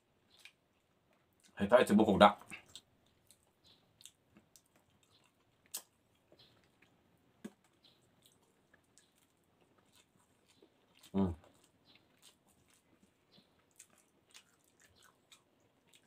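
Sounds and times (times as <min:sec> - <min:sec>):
soft chewing and mouth clicks: 0:00.0 - 0:01.6, 0:02.4 - 0:16.0.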